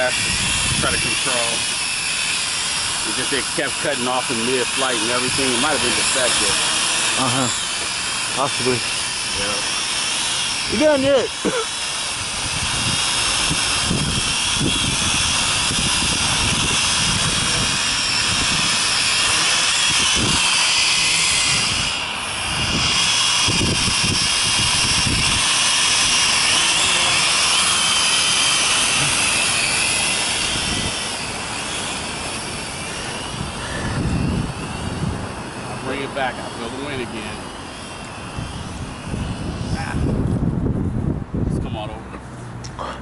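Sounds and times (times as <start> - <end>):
wind buffeting microphone: 0.0 - 42.7
drone propellers whining: 0.0 - 43.0.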